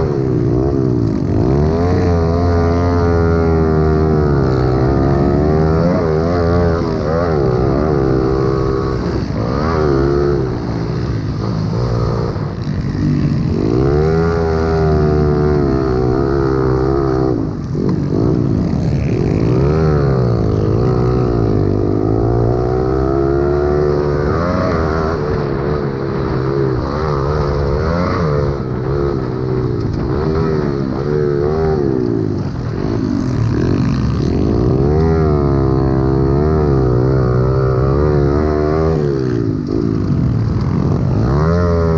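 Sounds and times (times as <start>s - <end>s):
pit bike engines revving: 0.0s - 41.9s.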